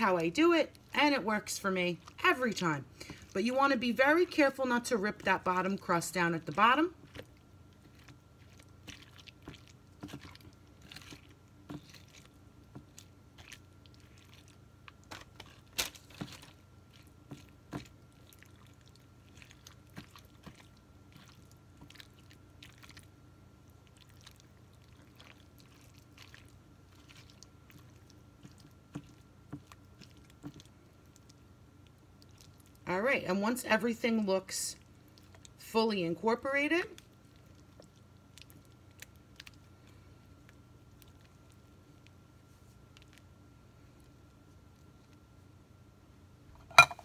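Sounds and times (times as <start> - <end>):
spatula stirring wet filling: 0.0 - 32.9, 33.5 - 43.4.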